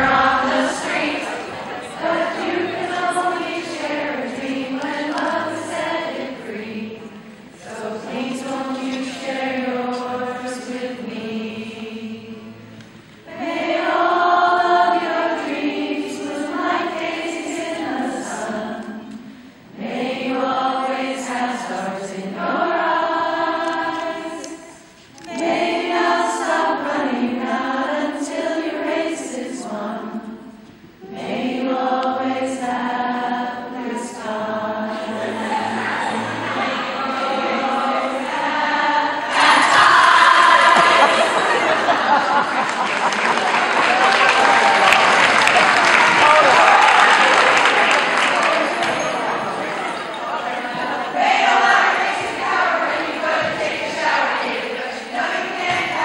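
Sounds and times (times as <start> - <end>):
group of voices singing: 0.0 - 56.0.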